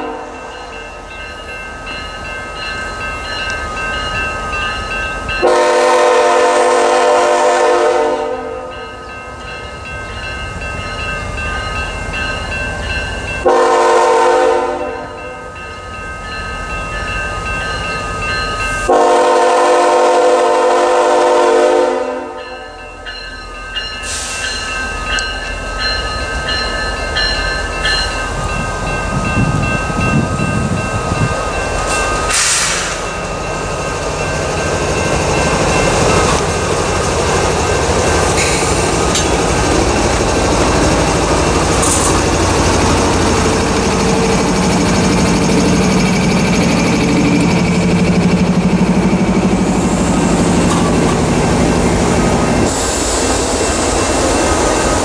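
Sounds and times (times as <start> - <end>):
crossing bell ringing: 0.0 - 55.0
diesel locomotive engines: 0.0 - 55.0
train wheels on rails: 0.0 - 55.0.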